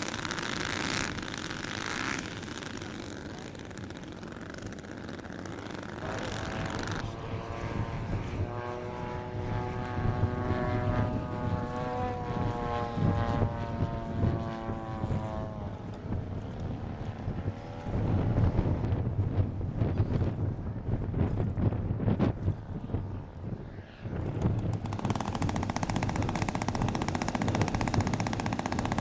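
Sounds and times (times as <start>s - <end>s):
model airplane engine running: 0.0s - 29.0s.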